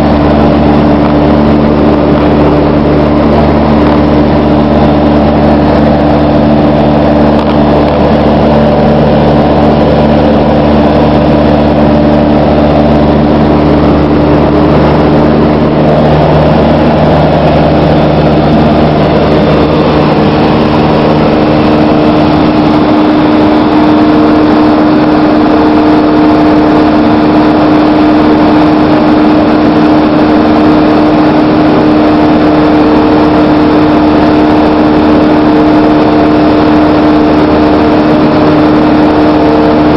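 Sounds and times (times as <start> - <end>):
airplane engine and propeller: 0.0 - 39.9.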